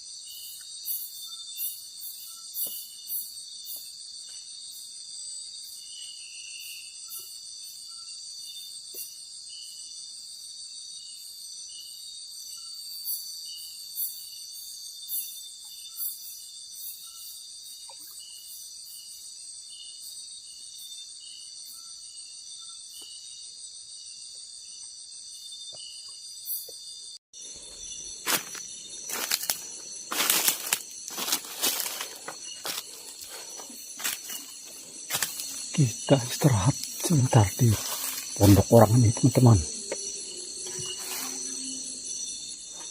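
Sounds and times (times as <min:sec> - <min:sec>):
insect chorus trilling: 0:00.0 - 0:42.9.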